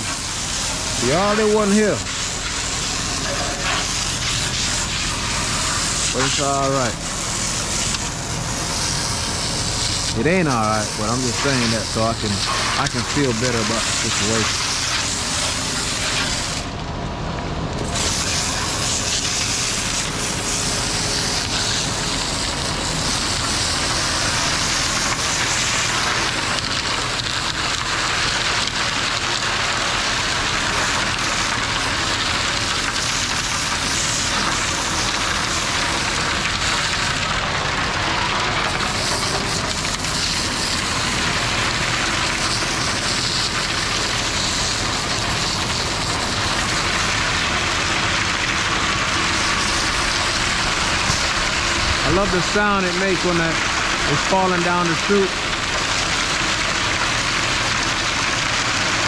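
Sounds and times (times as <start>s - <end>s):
hose spray hissing on metal chute: 0.0s - 16.8s, 17.8s - 59.0s.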